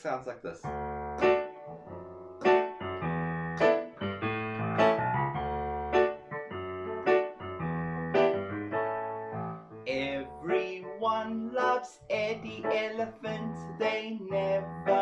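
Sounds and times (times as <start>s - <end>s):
bouncy piano accompaniment: 0.6s - 15.0s.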